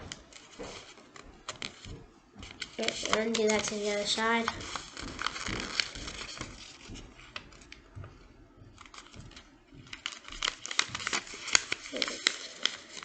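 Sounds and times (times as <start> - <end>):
sharp crackling clicks of paper: 0.0 - 7.9, 8.8 - 13.0
paper rustling and crinkling: 0.0 - 13.0.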